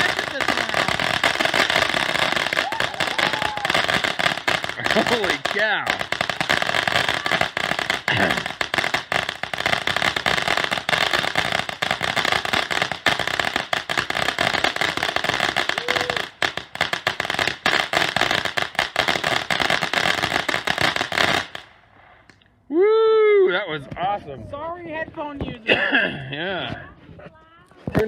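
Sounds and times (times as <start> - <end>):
fireworks popping and crackling: 0.0 - 22.4, 23.8 - 28.0.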